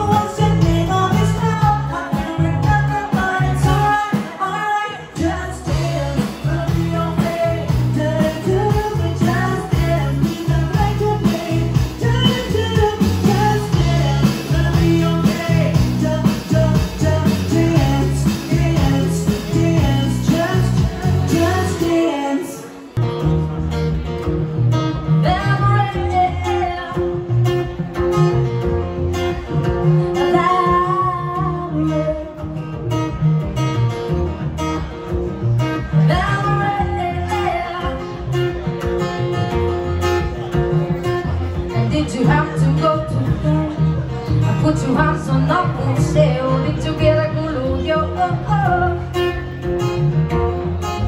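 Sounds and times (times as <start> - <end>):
woman singing with live band: 0.0 - 23.0, 24.9 - 28.6, 29.2 - 33.2, 35.6 - 40.4, 41.0 - 50.0
woman singing with guitar and bass: 0.0 - 51.0.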